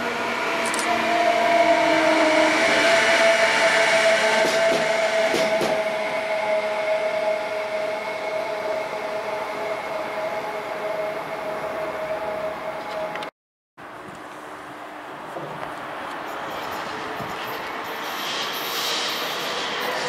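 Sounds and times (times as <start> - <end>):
electric locomotive whine: 0.0 - 13.3, 14.5 - 20.0.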